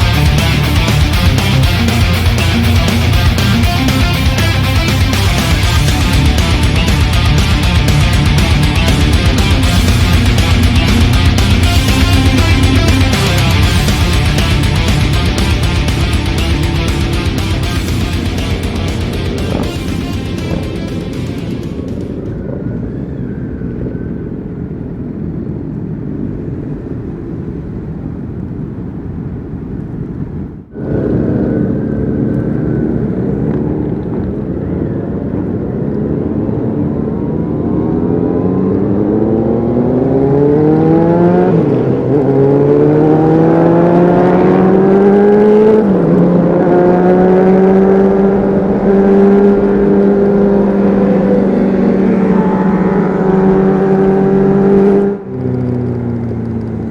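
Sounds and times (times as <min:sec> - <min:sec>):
motorcycle engine revving: 0:00.0 - 0:22.6, 0:30.8 - 0:56.9.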